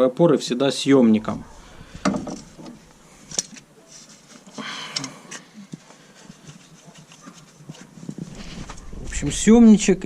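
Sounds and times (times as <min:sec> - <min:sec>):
rustling of tools: 0:01.2 - 0:09.3.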